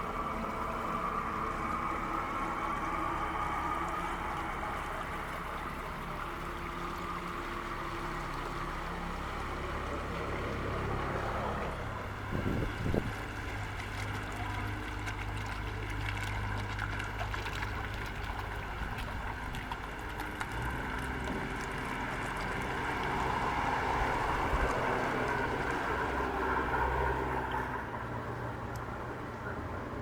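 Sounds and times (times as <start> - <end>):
motor boat engine running: 0.0 - 30.0
water rushing: 0.0 - 30.0.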